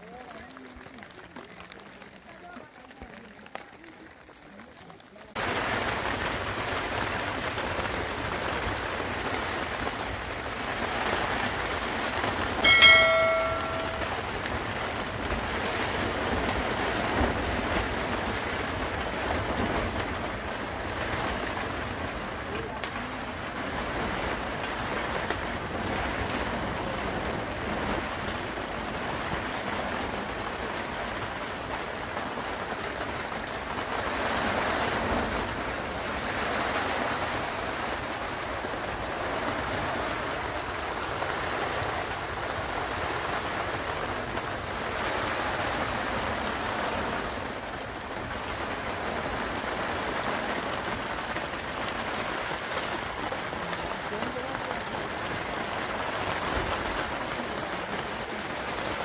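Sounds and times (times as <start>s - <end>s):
rain on plastic sheeting: 0.0s - 59.0s.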